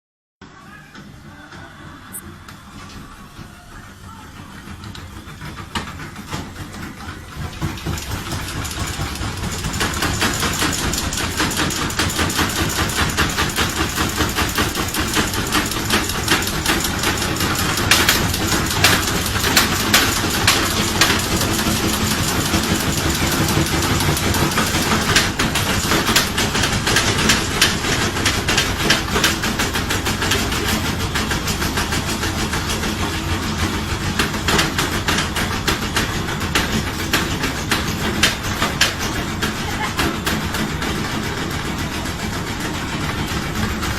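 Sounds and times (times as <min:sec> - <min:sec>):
washing machine spinning: 0:00.4 - 0:43.9
washing machine rattling knock: 0:03.4 - 0:43.9.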